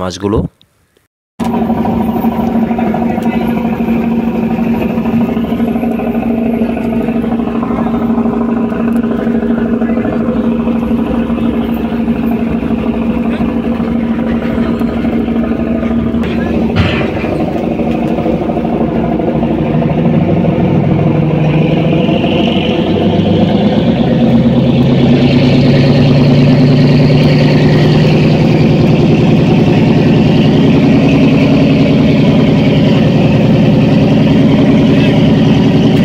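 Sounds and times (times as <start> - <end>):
boat engine running: 1.4 - 36.0.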